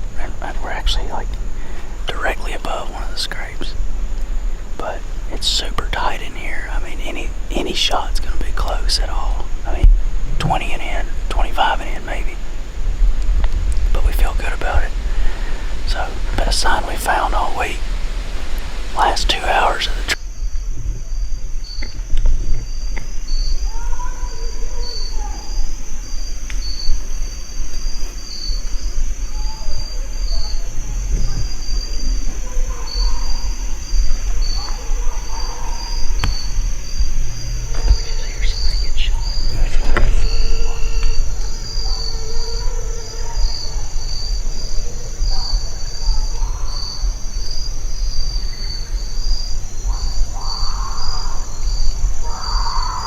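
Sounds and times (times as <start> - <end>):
constant high buzz: 0.0 - 53.0
insects chirping: 0.0 - 53.0.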